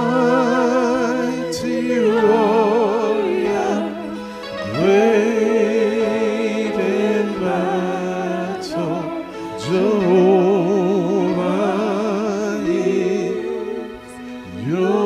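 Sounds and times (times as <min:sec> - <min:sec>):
sustained backing tones: 0:00.0 - 0:15.0.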